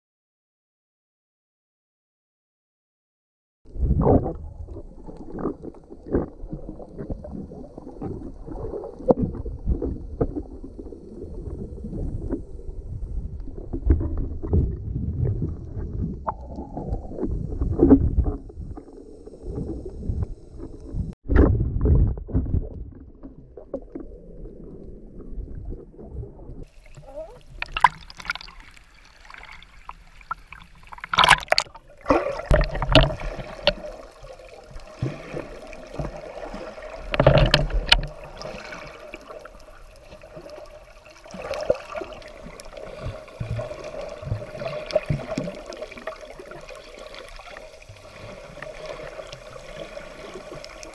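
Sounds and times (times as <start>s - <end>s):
underwater thumps and bubbling: 3.8s - 50.9s
water sloshing and splashing: 4.2s - 50.9s.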